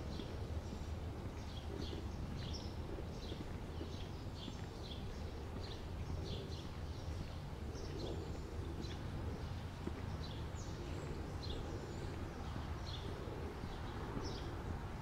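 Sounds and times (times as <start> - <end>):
small songbirds chirping: 0.0 - 15.0
steady low rumble: 0.0 - 15.0.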